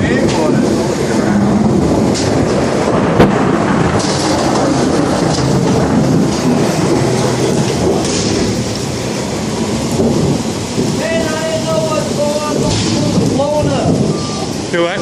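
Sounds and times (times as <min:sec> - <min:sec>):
rolling thunder rumble: 0:00.0 - 0:15.0
thunder crack: 0:00.0 - 0:15.0.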